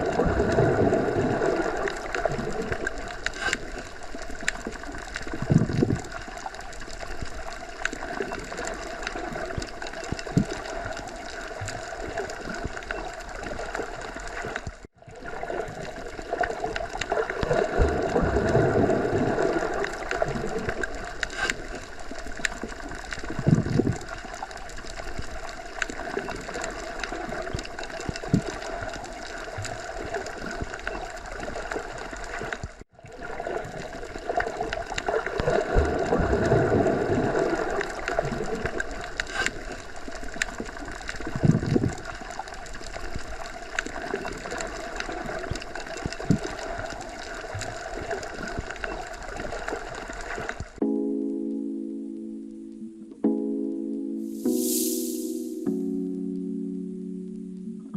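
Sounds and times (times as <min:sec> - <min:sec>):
muffled underwater rush: 0:00.0 - 0:50.8.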